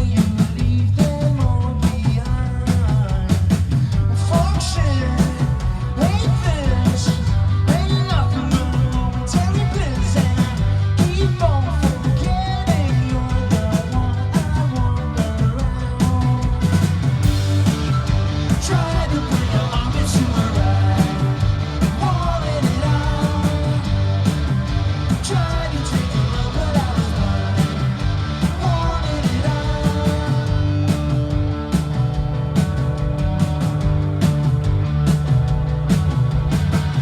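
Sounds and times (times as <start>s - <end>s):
punk band playing live: 0.0s - 37.0s.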